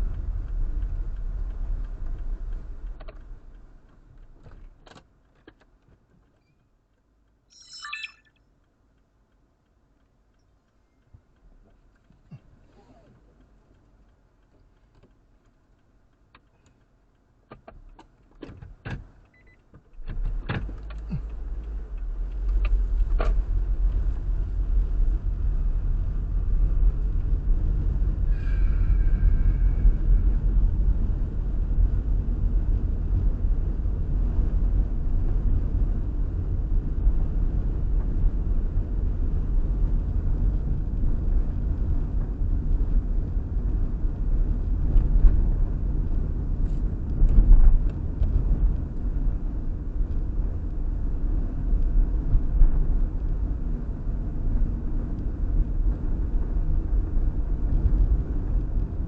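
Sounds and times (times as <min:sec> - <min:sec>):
car rumbling on the move: 0:00.0 - 0:05.9, 0:11.4 - 0:59.0.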